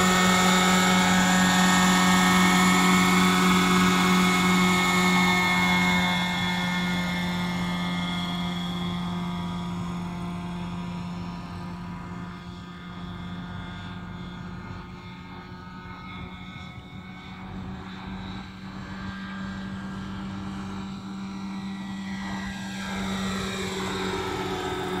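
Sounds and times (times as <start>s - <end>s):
low hum: 0.0s - 25.0s
model helicopter rotor whine: 0.0s - 25.0s.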